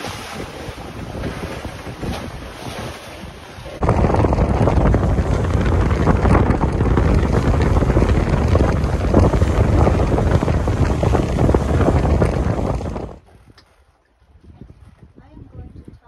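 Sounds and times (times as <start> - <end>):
boat rushing through water: 0.0 - 14.4
wind buffeting microphone: 0.0 - 16.0.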